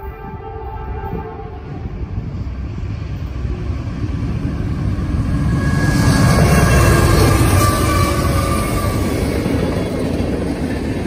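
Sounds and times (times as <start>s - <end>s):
diesel locomotives approaching: 0.0s - 11.0s.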